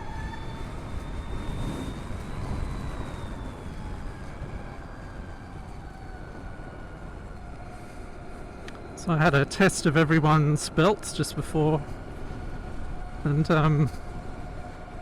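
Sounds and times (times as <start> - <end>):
road rumble: 0.0 - 15.0.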